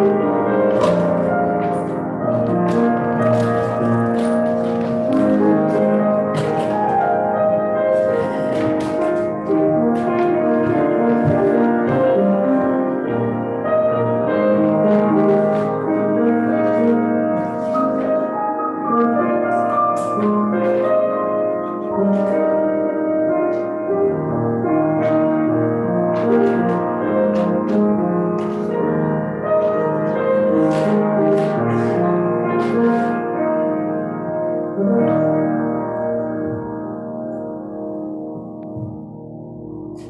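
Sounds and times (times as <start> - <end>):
slow keyboard music: 0.0 - 40.0.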